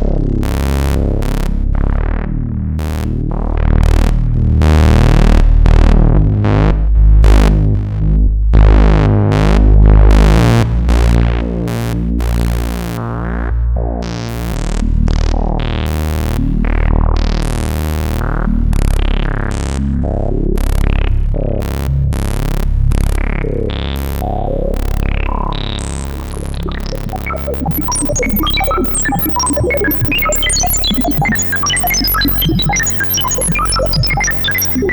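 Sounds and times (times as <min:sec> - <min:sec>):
synthesizer bass line: 0:00.0 - 0:34.9.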